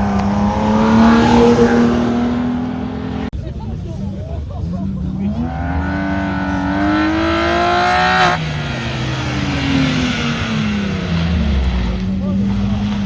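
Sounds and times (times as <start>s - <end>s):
car engine revving hard: 0.0s - 3.4s, 4.6s - 13.0s.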